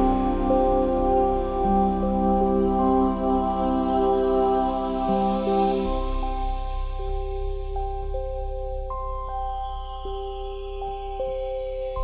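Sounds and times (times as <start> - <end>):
sustained background music notes: 0.0 - 12.0.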